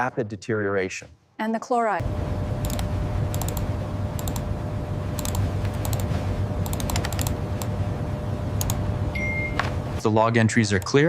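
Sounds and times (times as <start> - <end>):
steady low hum: 2.0 - 11.0.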